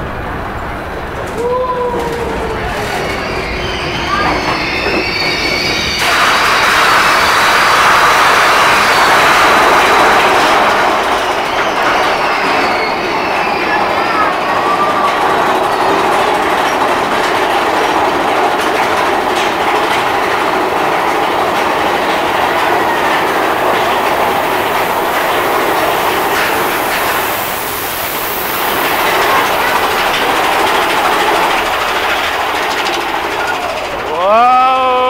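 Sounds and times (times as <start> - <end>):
roller coaster wheels rumbling on rails: 0.0 - 35.0.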